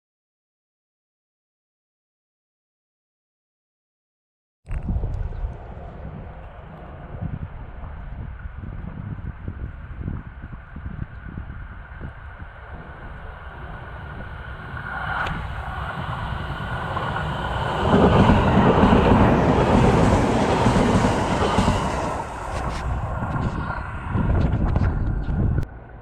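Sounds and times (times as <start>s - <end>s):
train rumbling: 4.7s - 26.0s.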